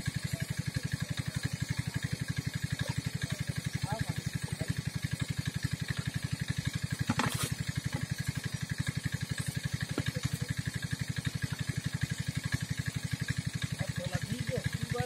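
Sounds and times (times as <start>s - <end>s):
small engine chugging: 0.0s - 15.0s.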